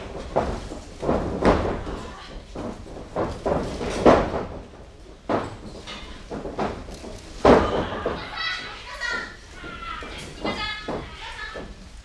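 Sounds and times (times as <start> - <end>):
bodies thudding on ring canvas: 0.0 - 11.8.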